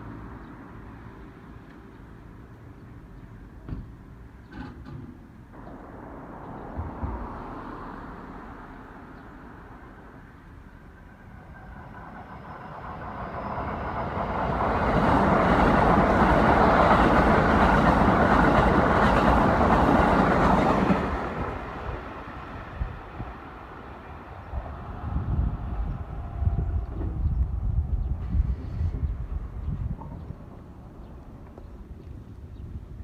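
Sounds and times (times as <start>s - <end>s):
electric train passing: 5.5s - 32.5s.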